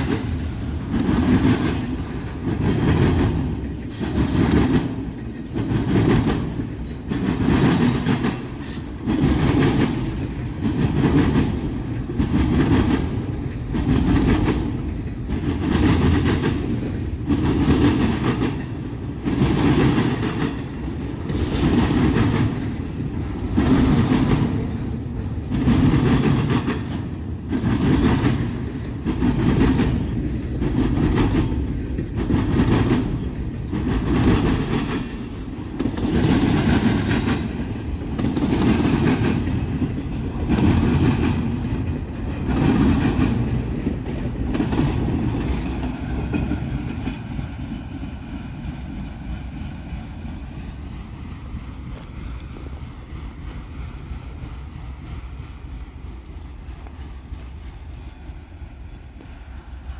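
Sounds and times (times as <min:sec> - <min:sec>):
train wheels clattering over crossing: 0:00.0 - 0:59.9.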